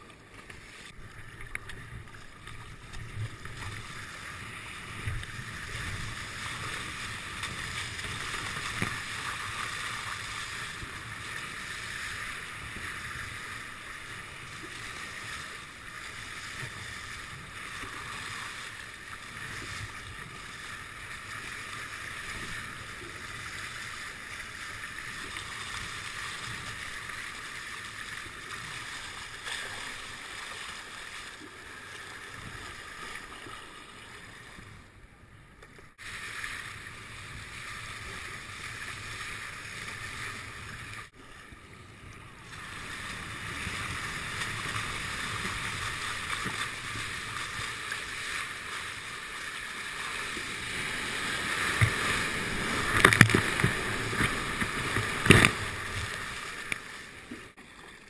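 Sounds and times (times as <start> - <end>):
water rushing along kayak hull: 0.0 - 58.0.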